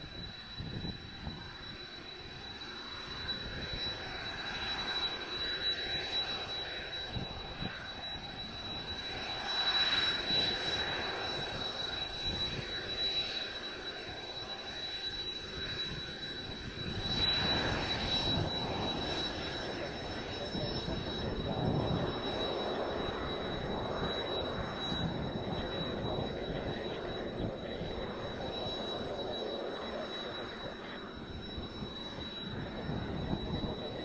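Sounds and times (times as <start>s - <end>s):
jet engines whining: 0.0s - 34.0s.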